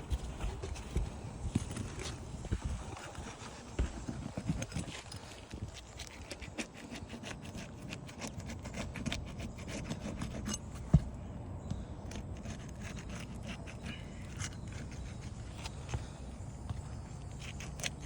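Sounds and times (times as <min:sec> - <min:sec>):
tool scraping and clicking under shingles: 0:00.0 - 0:11.2, 0:12.0 - 0:16.2, 0:17.2 - 0:18.0.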